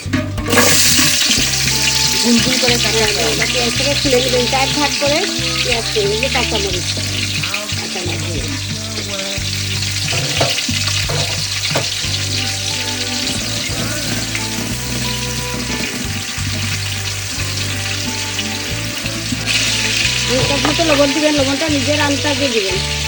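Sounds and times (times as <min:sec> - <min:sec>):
onion sizzling in hot oil: 0:00.0 - 0:23.0
spatula stirring and scraping pan: 0:00.0 - 0:23.0.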